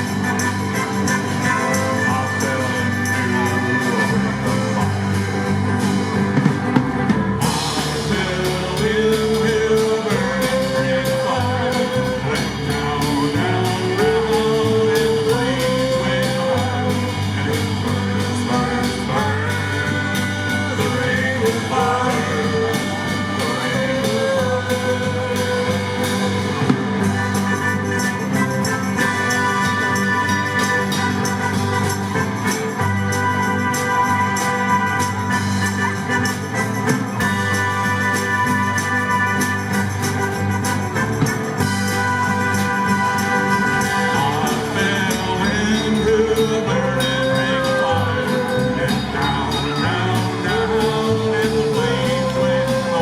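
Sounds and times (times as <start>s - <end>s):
live band playing: 0.0s - 53.0s.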